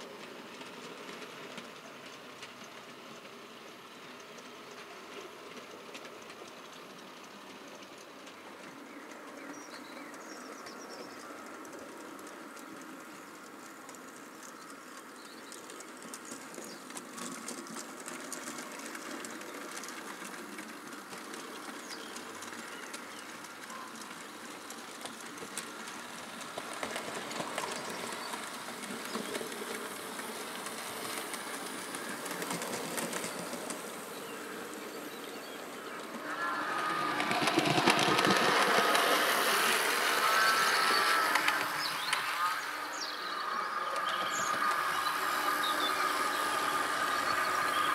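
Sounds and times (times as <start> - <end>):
wheels clicking over rail joints: 0.0 - 47.9.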